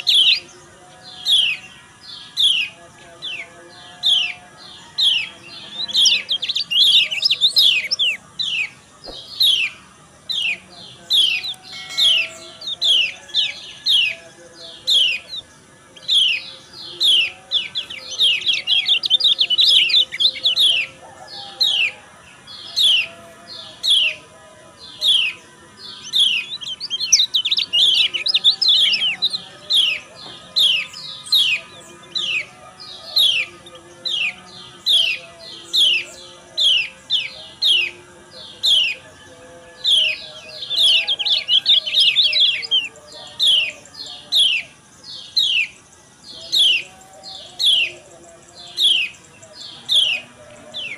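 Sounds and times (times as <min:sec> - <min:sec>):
bird high chirps: 0:00.0 - 0:24.2, 0:24.8 - 0:50.9.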